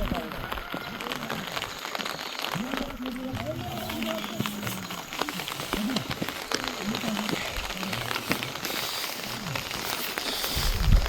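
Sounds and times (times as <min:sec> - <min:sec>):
faint voices talking: 0:00.0 - 0:11.0
rain falling: 0:00.0 - 0:11.0.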